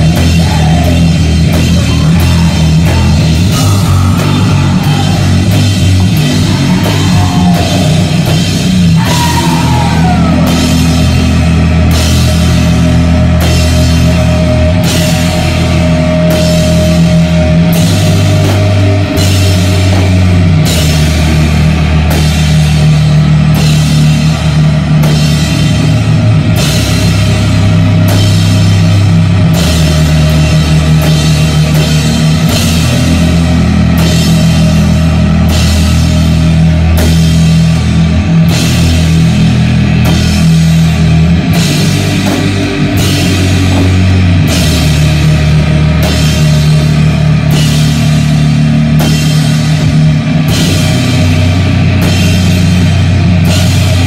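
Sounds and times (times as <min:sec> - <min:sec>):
drum kit: 0:00.0 - 0:54.0
heavy metal guitar and bass riff: 0:00.0 - 0:54.0.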